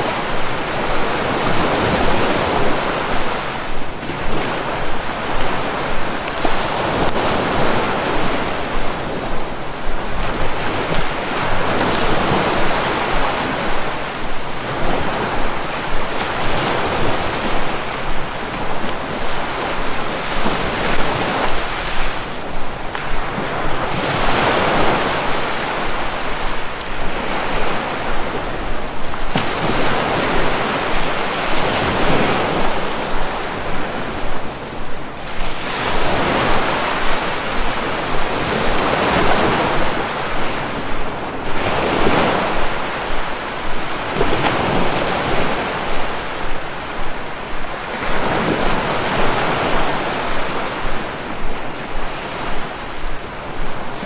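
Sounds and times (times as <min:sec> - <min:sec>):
sea waves surging and washing back: 0:00.0 - 0:54.0.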